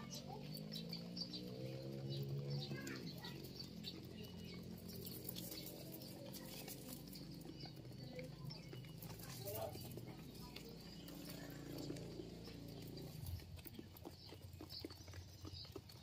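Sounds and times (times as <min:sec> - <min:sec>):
birds pecking grain on concrete: 0:00.0 - 0:16.0.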